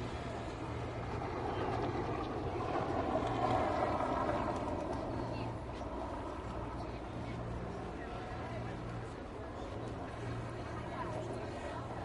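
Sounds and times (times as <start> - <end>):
low hum of traffic: 0.0 - 12.0.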